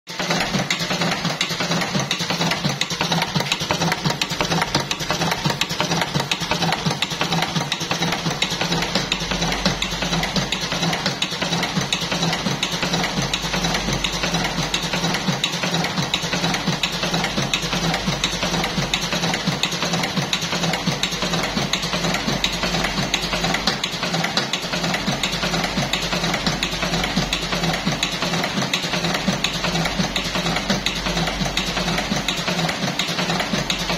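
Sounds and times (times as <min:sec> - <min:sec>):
rapid mechanical clatter: 0:00.1 - 0:33.9
machine motor hum: 0:00.2 - 0:33.9.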